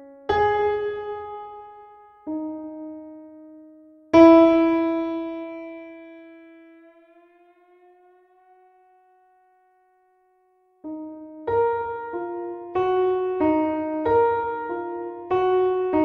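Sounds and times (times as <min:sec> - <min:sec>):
slow piano notes: 0:00.0 - 0:16.0.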